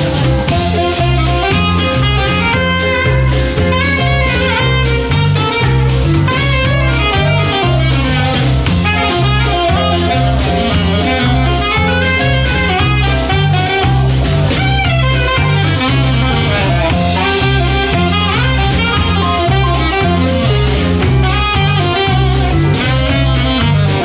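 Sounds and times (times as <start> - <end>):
bass line: 0.0 - 24.0
drum kit: 0.0 - 24.0
horn melody: 0.0 - 24.0.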